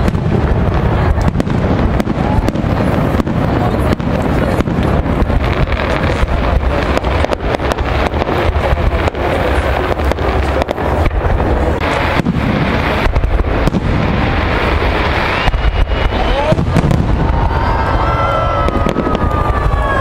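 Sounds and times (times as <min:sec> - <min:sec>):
fireworks pops and crackles: 0:00.0 - 0:20.0
wind buffeting microphone: 0:00.0 - 0:20.0.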